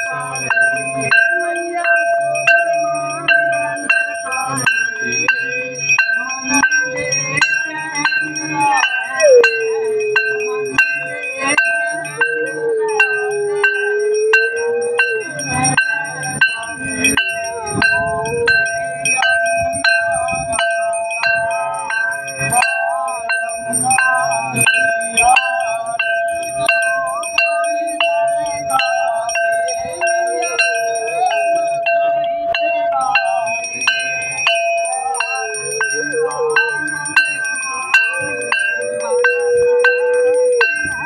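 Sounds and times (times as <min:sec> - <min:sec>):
rhythmic hand-clapping: 0:00.0 - 0:41.0
temple bell ringing: 0:00.0 - 0:41.0
voices singing: 0:00.0 - 0:41.0.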